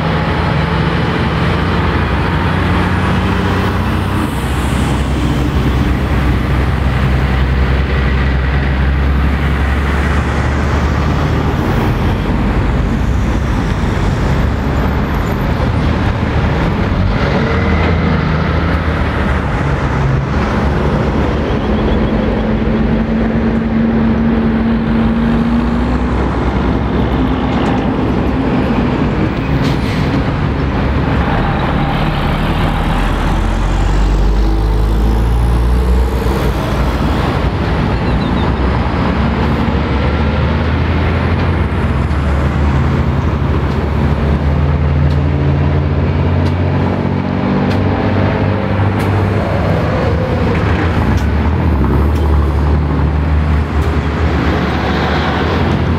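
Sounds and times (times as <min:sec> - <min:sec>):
trucks and cars passing: 0:00.0 - 0:55.9.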